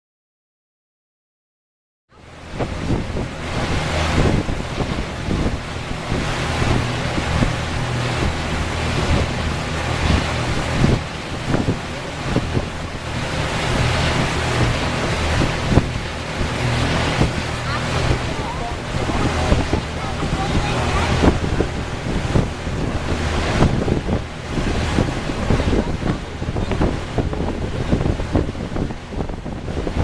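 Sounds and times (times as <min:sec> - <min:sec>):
low engine drone: 0:02.1 - 0:30.0
rushing water: 0:02.2 - 0:30.0
wind buffeting the microphone: 0:02.2 - 0:30.0.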